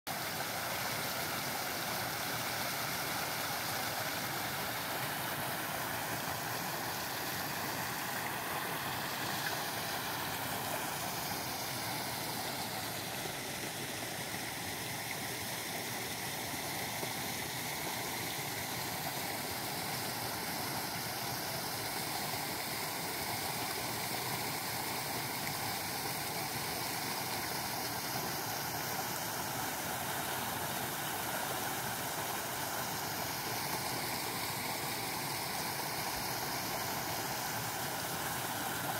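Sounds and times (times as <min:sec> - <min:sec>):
running water rushing: 0:00.1 - 0:38.9.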